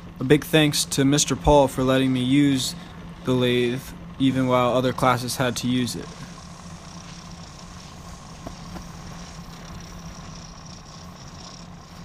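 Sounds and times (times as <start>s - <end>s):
wood lathe motor humming: 0.0s - 12.0s
turning tool cutting wood: 1.9s - 12.0s.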